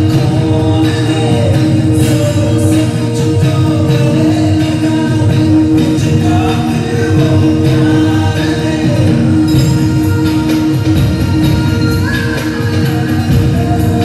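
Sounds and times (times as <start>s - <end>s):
song with singing and instruments: 0.0s - 14.0s.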